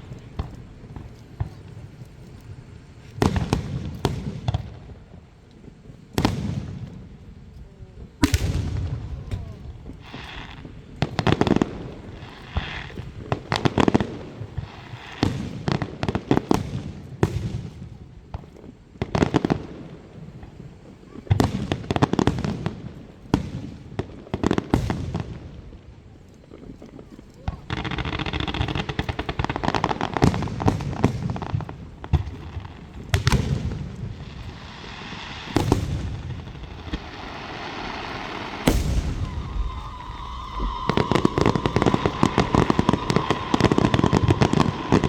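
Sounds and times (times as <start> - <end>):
fireworks bursting: 0.0 - 45.0
fireworks crackling: 0.0 - 45.0.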